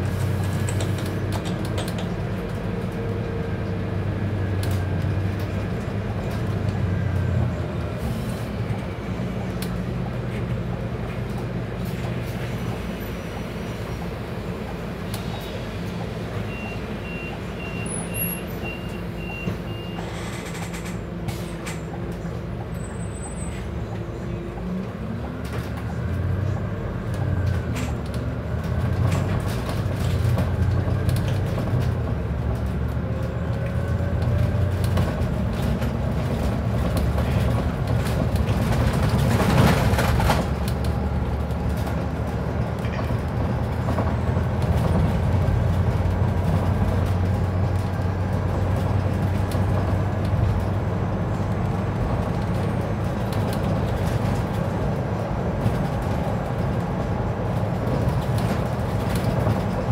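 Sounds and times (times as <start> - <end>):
bus engine hum: 0.0 - 59.9
tyre and road noise: 0.0 - 59.9.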